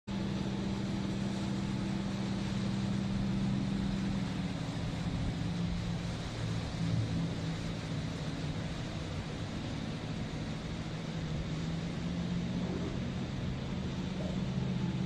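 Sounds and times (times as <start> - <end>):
low engine drone: 0.1 - 15.0.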